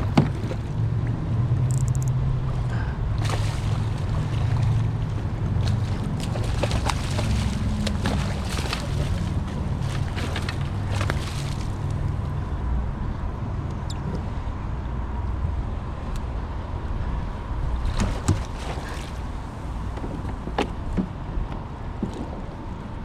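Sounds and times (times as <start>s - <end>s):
wind and water rumble: 0.0s - 23.0s.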